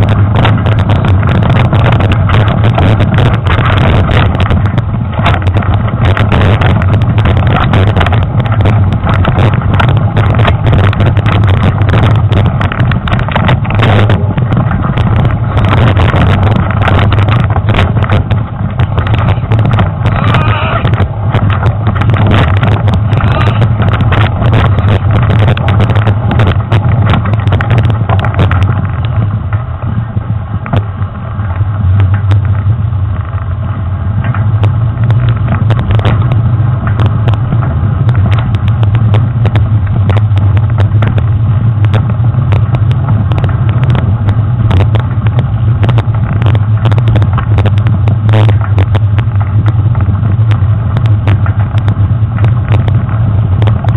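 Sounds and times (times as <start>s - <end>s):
bike rumbling over rough trail: 0.0s - 53.9s
knocks and rattles: 0.0s - 53.9s.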